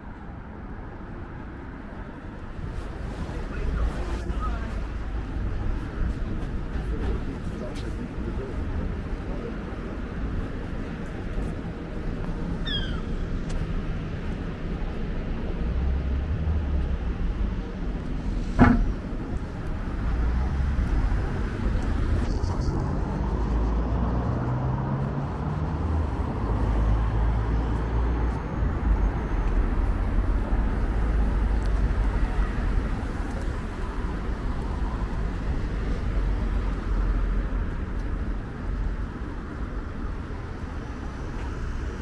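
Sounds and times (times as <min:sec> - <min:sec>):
traffic rumble: 0:00.0 - 0:42.0.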